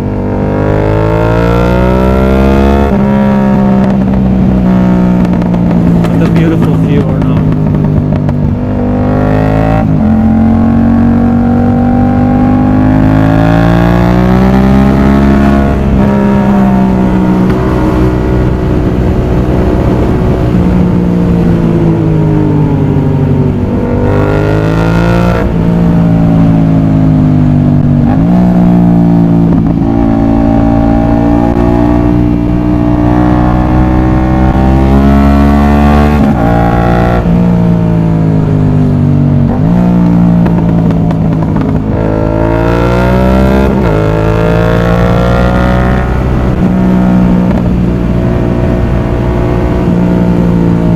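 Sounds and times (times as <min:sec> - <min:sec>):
motorcycle engine revving through gears: 0:00.0 - 0:50.9.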